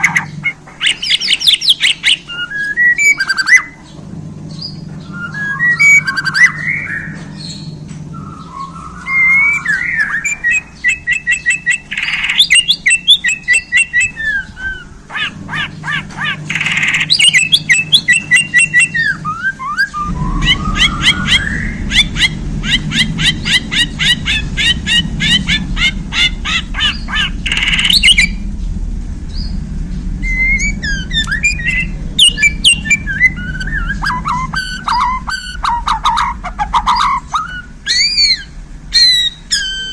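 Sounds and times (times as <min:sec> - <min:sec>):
songbird singing trills and whistles: 0:00.0 - 0:28.5, 0:29.3 - 0:39.9
low steady hum: 0:00.0 - 0:39.9.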